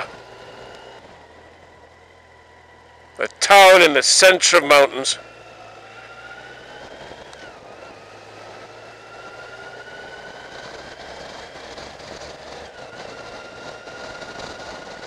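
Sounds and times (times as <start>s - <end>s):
motorcycle engine whine: 0.0s - 15.0s
wind and road noise: 0.0s - 15.0s.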